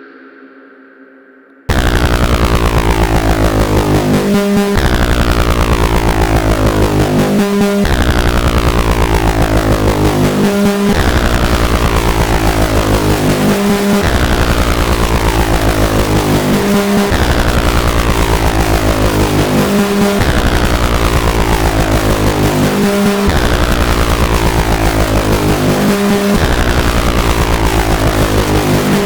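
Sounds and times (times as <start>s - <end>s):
analog oscillator low tone sweeping: 1.7s - 29.0s.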